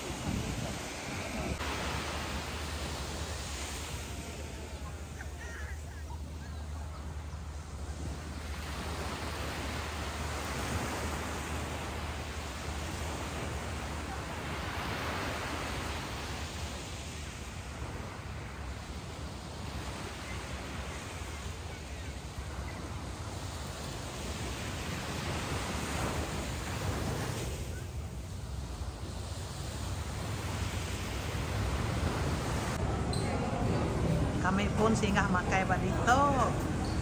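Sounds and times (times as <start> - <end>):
small waves breaking on beach: 0.0 - 32.9.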